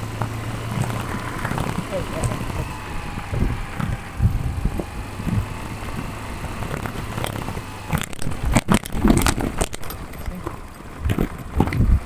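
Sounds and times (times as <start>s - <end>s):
road and wind noise: 0.0s - 12.0s
scooter engine running: 0.0s - 12.0s
sharp clicks and knocks: 0.2s - 12.0s.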